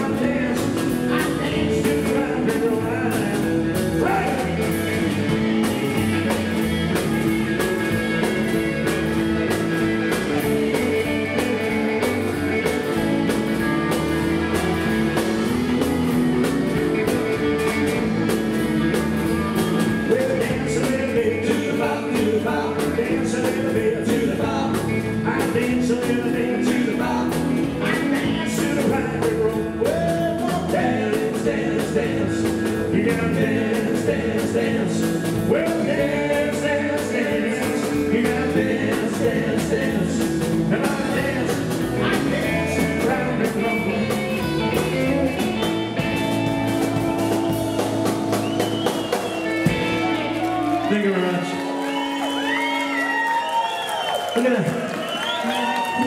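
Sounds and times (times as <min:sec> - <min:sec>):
drum kit beat: 0:00.0 - 0:50.9
electric guitar: 0:00.0 - 0:56.0.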